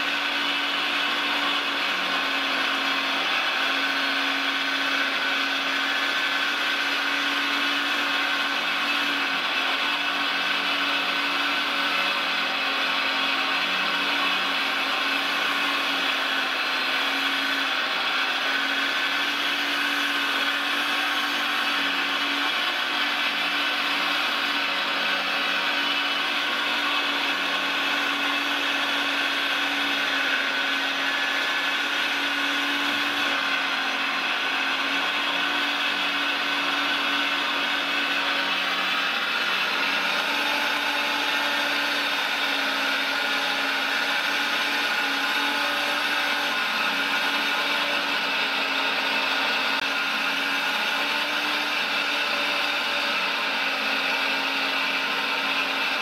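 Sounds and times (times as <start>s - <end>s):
hydraulic pump whine: 0.0s - 56.0s.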